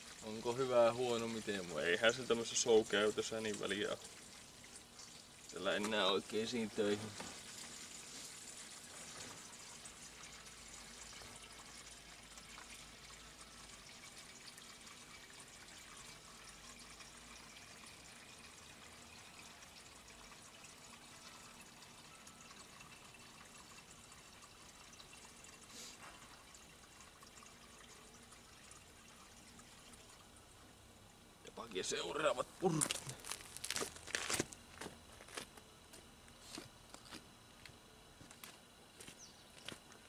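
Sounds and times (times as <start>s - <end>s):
coolant trickling into container: 0.0s - 34.7s.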